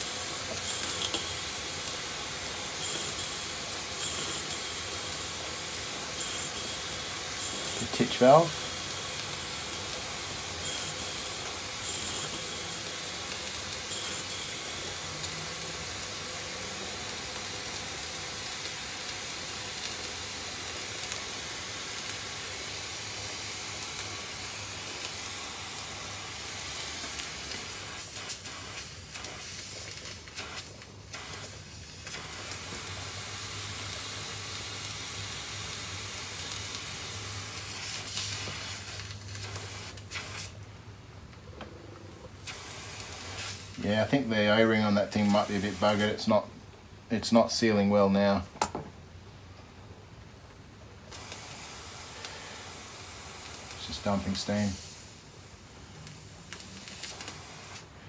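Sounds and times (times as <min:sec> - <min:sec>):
steam hissing: 0:00.0 - 0:40.6, 0:42.4 - 0:46.5, 0:51.1 - 0:58.0.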